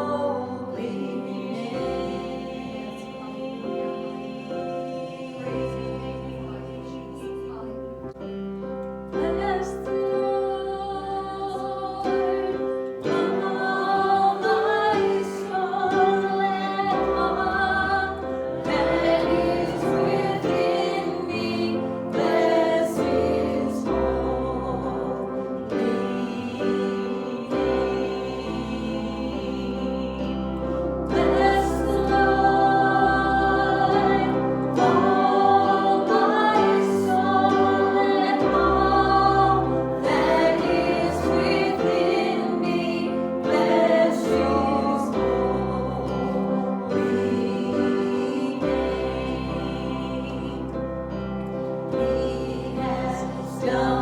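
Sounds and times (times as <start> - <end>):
group singing worship song: 0.0 - 54.0
instrumental accompaniment: 0.0 - 54.0.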